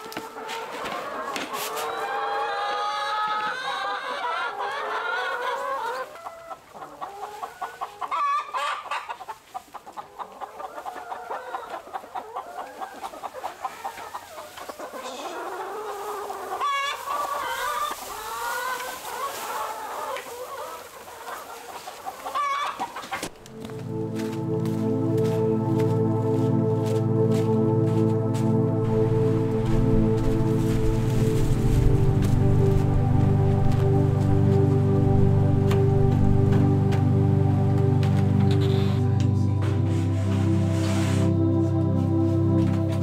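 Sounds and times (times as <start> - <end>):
hens clucking: 0.0 - 43.0.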